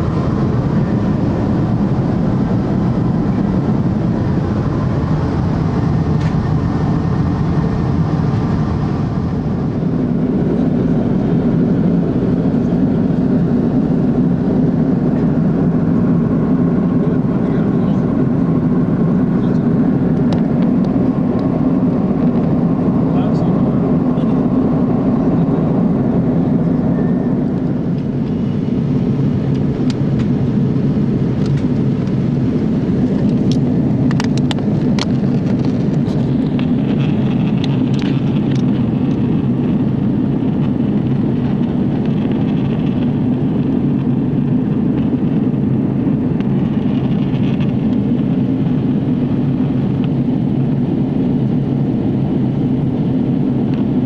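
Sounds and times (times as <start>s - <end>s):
jet cabin engine drone: 0.0s - 54.0s.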